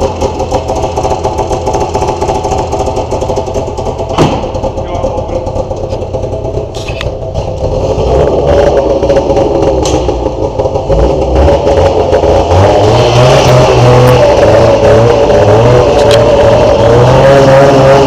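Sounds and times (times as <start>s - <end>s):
snowmobile engine running: 0.0s - 18.0s.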